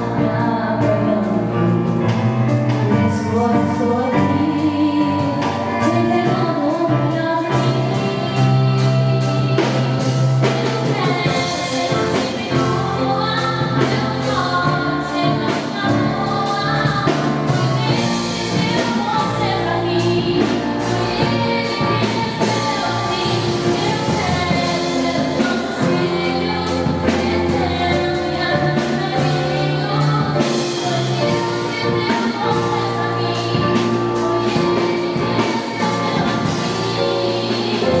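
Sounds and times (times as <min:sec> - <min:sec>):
woman singing into microphone: 0:00.0 - 0:02.0, 0:02.7 - 0:38.0
live band playing: 0:00.0 - 0:38.0.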